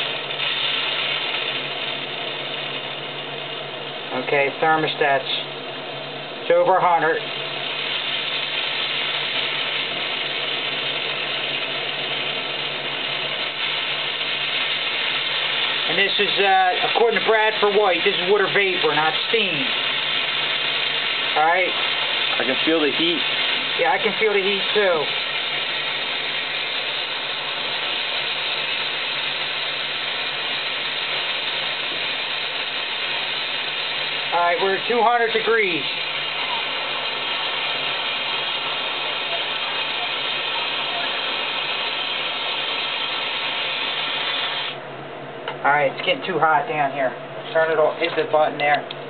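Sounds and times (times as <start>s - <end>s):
steam hissing and sputtering: 0.0s - 44.9s.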